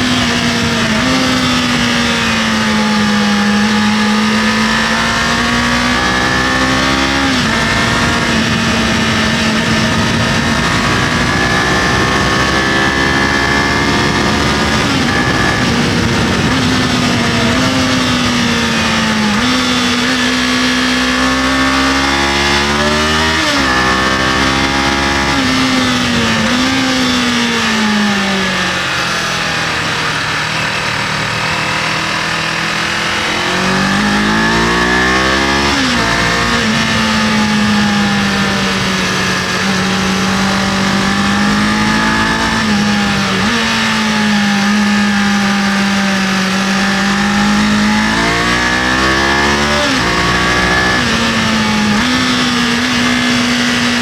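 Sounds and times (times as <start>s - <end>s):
motorcycle engine revving: 0.0s - 54.0s
wind on microphone: 0.0s - 54.0s.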